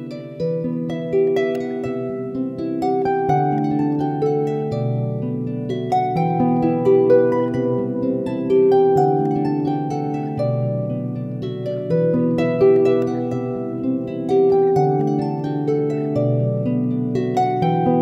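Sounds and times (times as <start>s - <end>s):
harp-like plucked string melody: 0.0s - 18.0s.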